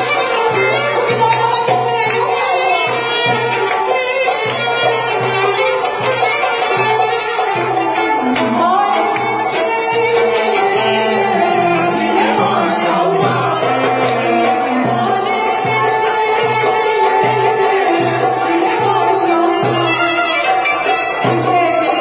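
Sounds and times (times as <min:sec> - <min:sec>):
woman singing into a microphone: 0:00.0 - 0:04.1, 0:07.8 - 0:22.0
amplified band playing: 0:00.0 - 0:22.0.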